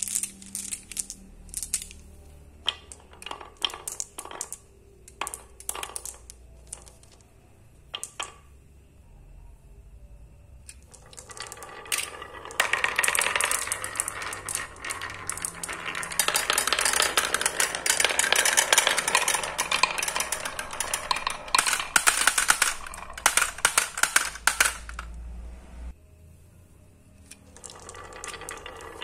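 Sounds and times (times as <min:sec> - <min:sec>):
marbles clattering down wooden run: 0:00.0 - 0:07.2, 0:07.9 - 0:08.5, 0:10.7 - 0:25.2, 0:27.5 - 0:29.0
marbles dropping into plastic tray: 0:00.0 - 0:08.5, 0:10.7 - 0:25.2, 0:27.2 - 0:29.0.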